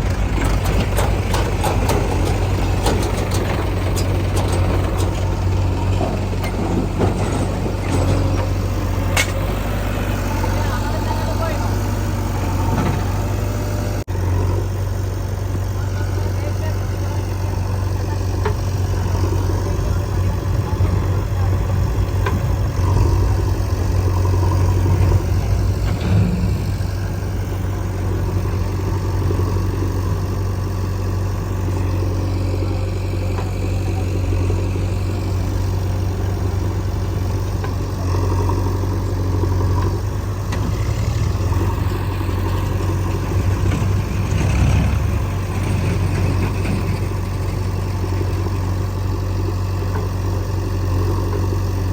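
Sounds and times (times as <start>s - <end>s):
diesel engines running: 0.0s - 51.9s.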